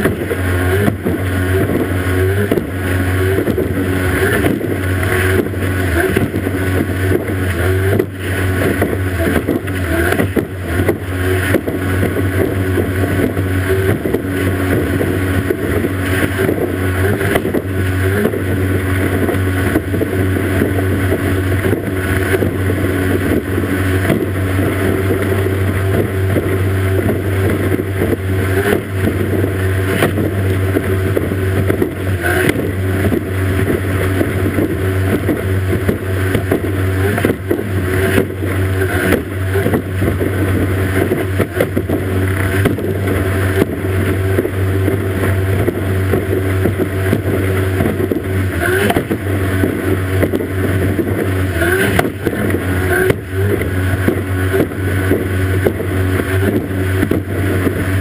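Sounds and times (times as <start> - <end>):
hull slamming on waves: 0.0 - 58.0
outboard engine at full speed: 0.0 - 58.0
rushing spray: 0.0 - 58.0
wind on microphone: 0.0 - 58.0.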